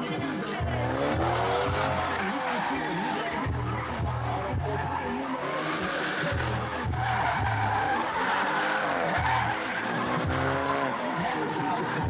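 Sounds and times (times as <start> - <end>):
heavy bass music beat: 0.0 - 2.6, 3.2 - 12.0
tyres squealing: 0.6 - 12.0.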